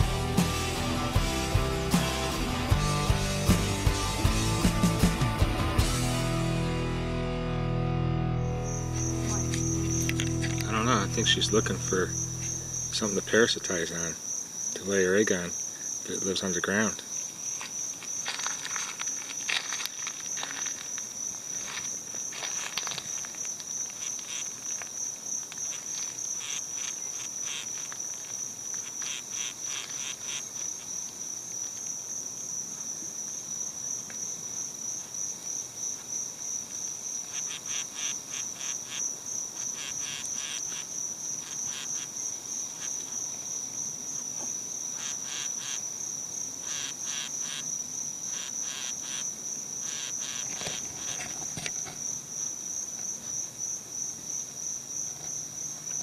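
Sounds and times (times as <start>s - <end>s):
insect pulsing trill: 8.4s - 32.6s, 34.6s - 56.0s
insect fast chirping: 8.4s - 56.0s.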